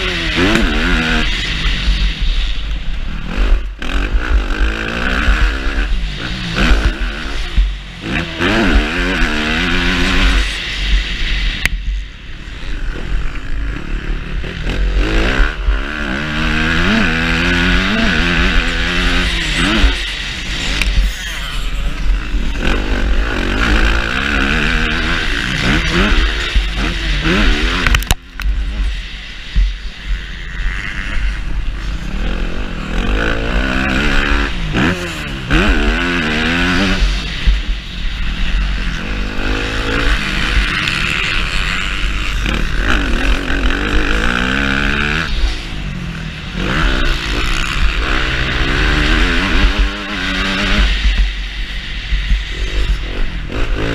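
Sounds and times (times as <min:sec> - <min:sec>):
motocross bike engine revving: 0:00.0 - 0:53.9
wind rumble on microphone: 0:00.0 - 0:53.9.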